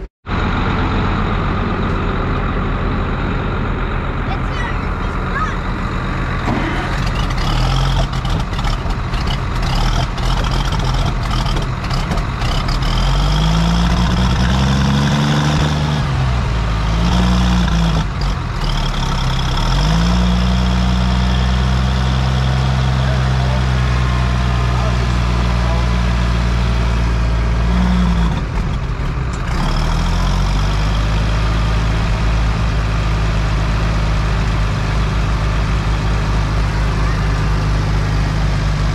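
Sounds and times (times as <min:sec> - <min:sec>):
tractor engine revving: 0:00.0 - 0:38.9.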